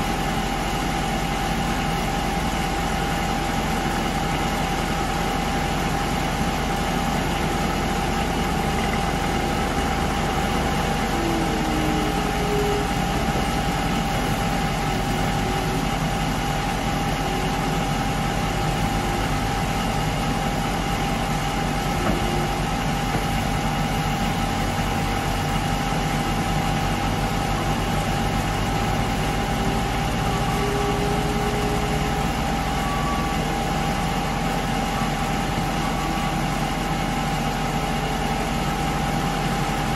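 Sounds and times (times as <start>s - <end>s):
diesel engine idling: 0.0s - 39.9s
diesel machinery tones: 0.0s - 39.9s.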